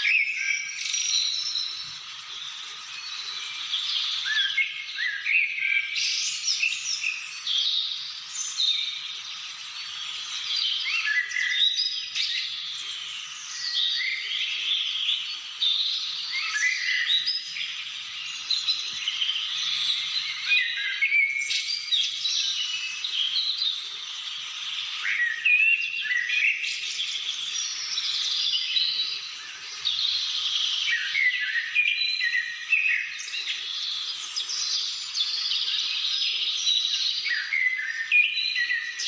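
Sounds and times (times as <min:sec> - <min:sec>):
birds chirping and whistling: 0:00.0 - 0:39.0.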